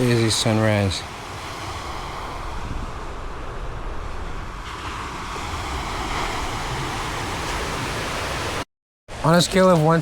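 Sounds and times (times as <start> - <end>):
wind rumbling on microphone: 0.0 - 8.6
surf washing on a beach: 0.0 - 10.0.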